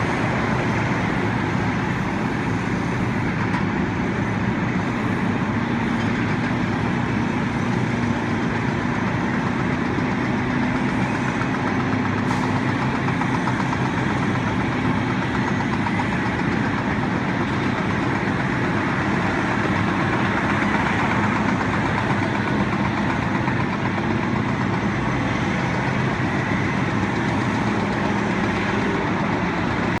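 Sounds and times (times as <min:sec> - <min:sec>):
heavy engine running: 0:00.0 - 0:30.0.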